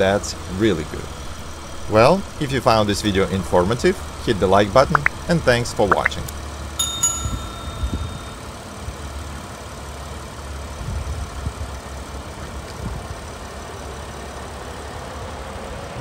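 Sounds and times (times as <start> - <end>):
car engine idling: 0.0 - 14.7.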